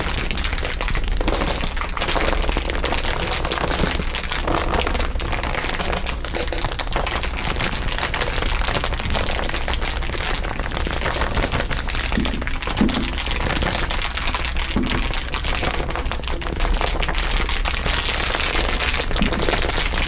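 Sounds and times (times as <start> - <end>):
dense crinkling: 0.0 - 20.0.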